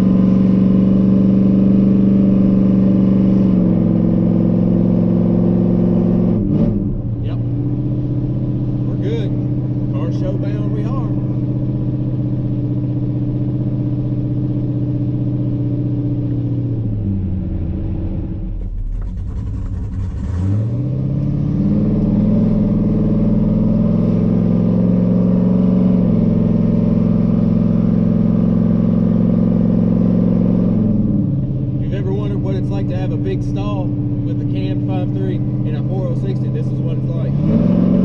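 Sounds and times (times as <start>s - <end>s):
pickup truck engine revving: 0.0s - 38.0s.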